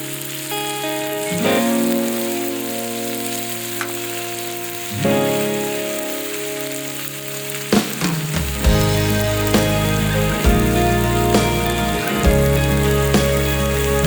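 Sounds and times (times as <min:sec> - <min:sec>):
background music: 0:00.0 - 0:14.0
meat sizzling over campfire: 0:00.0 - 0:14.0.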